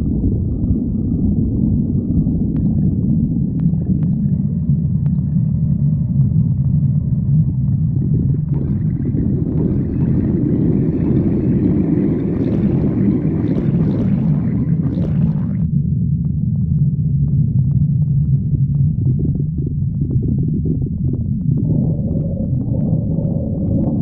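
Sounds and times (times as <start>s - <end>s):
stomach growling: 0.0s - 24.0s.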